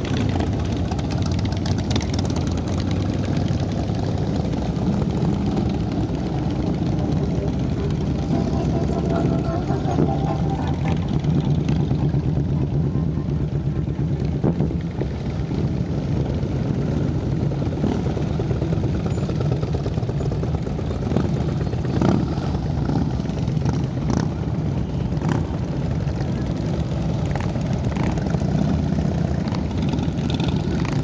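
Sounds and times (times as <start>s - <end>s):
motorcycle engines rumbling: 0.0s - 31.0s.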